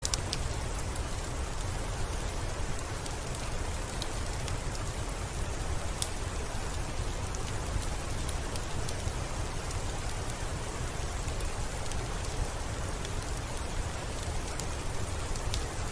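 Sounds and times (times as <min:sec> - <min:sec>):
steady rain falling: 0:00.0 - 0:15.9
wood fire crackling: 0:00.0 - 0:15.9.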